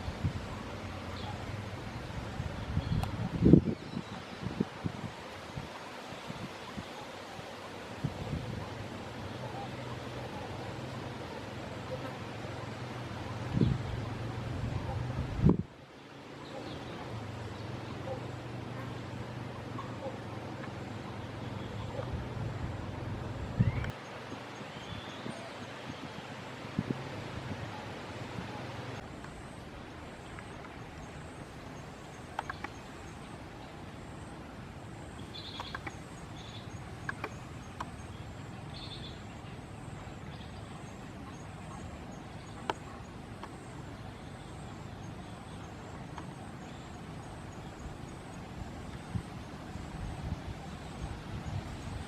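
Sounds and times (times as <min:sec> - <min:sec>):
outdoor background noise: 0:00.0 - 0:52.0.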